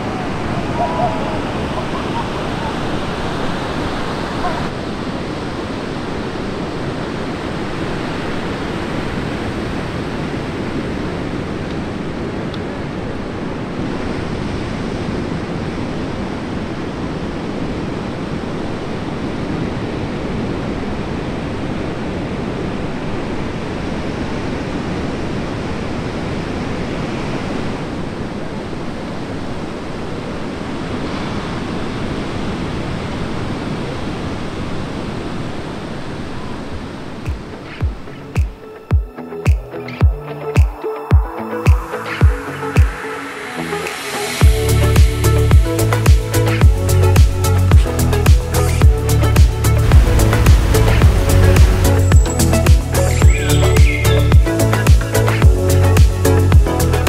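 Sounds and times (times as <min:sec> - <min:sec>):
ocean surf breaking: 0:00.0 - 0:20.4, 0:21.0 - 0:45.1, 0:47.1 - 0:54.0.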